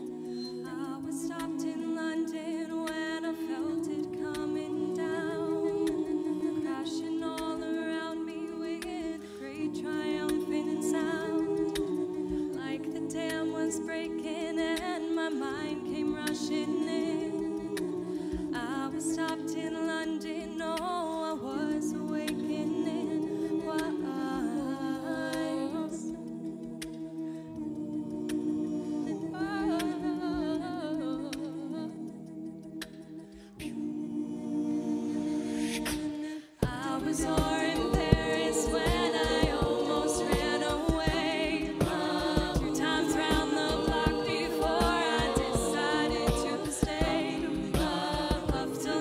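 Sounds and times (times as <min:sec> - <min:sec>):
woman singing into a microphone: 0:00.0 - 0:26.2, 0:29.1 - 0:32.2, 0:36.2 - 0:49.0
a cappella backing chords: 0:00.0 - 0:49.0.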